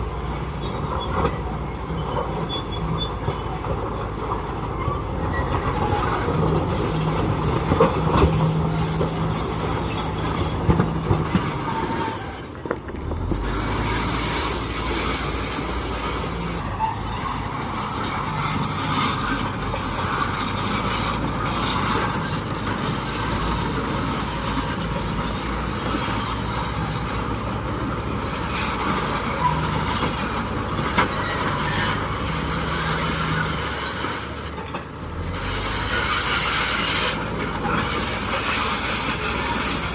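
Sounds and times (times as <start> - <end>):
diesel engine under load: 0.0 - 39.9
steel tracks grinding and squealing: 0.0 - 39.9.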